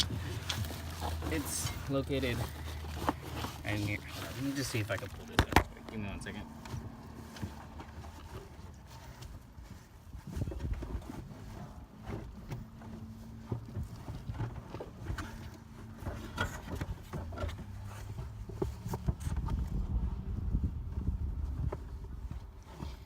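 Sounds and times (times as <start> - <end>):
knocking and clunking objects: 0.0 - 20.0
rustling: 0.0 - 23.0.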